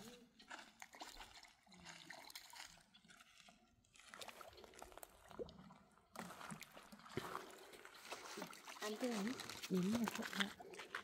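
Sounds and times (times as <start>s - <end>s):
lake water trickling and sloshing: 0.0s - 11.0s.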